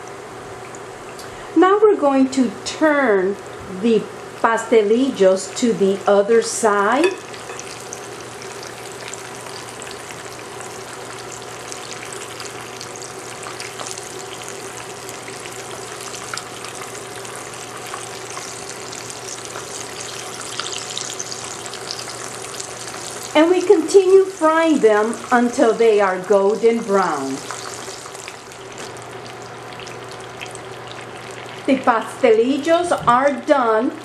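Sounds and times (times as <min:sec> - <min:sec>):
food sizzling in hot oil: 0:04.2 - 0:32.0.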